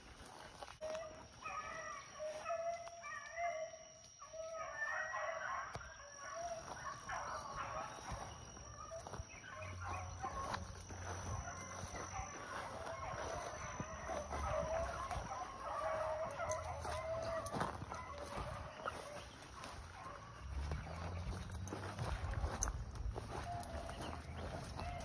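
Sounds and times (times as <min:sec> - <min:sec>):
hounds baying: 0:00.0 - 0:25.0.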